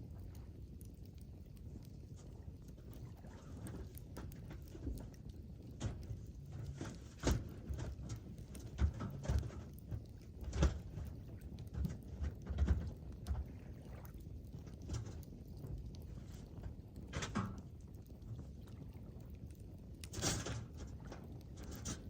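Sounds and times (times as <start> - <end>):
campfire crackling and popping: 0.0 - 22.0
low steady rumble: 0.0 - 22.0.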